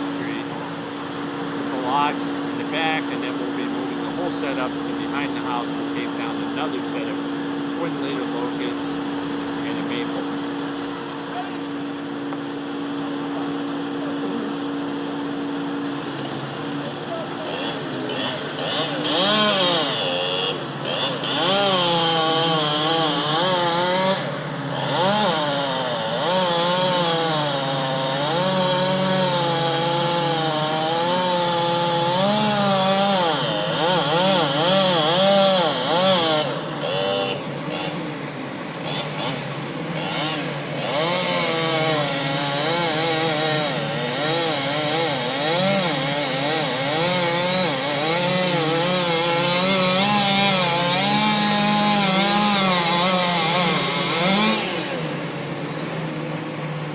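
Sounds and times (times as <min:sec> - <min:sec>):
chainsaw cutting tree trunk: 0:00.0 - 0:56.9.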